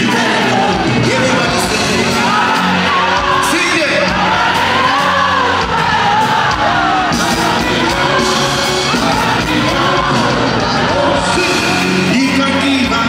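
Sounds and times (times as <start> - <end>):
crowd voices: 0.0 - 13.0
man singing with live band: 0.0 - 13.0.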